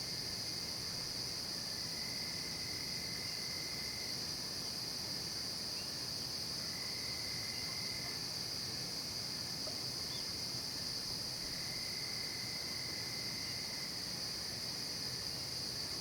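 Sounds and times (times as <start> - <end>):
crickets trilling: 0.0 - 16.0
fainter lower insect trill: 0.0 - 16.0.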